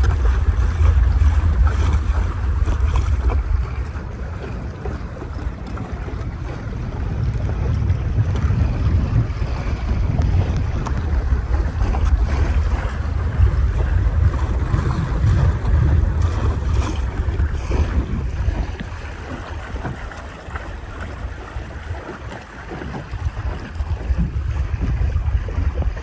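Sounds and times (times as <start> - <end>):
water splashing along boat hull: 0.0 - 26.0
wind buffeting microphone: 0.0 - 26.0.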